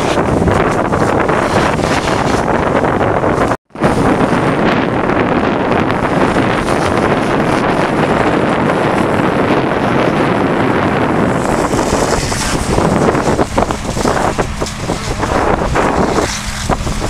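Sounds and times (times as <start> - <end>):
fire hose spraying water: 0.0 - 17.0
wind buffeting microphone: 0.0 - 17.0.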